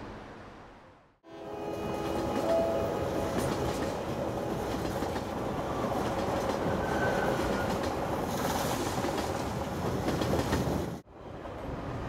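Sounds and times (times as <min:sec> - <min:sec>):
train wheels rumbling on rails: 0:01.8 - 0:12.0.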